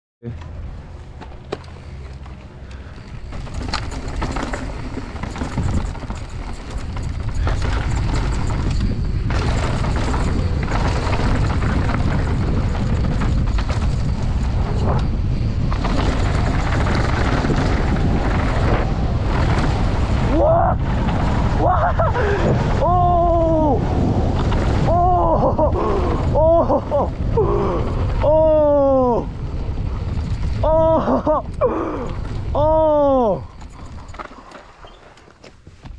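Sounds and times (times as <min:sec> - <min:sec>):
bike rattles and clicks: 0:00.2 - 0:35.9
wind rumbling on microphone: 0:00.3 - 0:35.9
mountain bike rolling on trail: 0:00.5 - 0:35.9.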